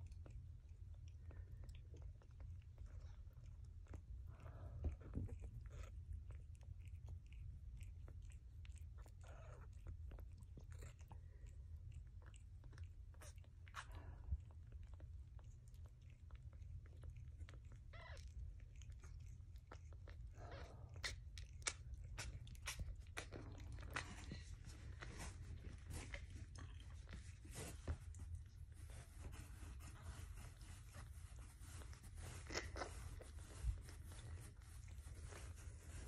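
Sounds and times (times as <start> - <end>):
cats chewing and mouth clicks: 0.0 - 36.0.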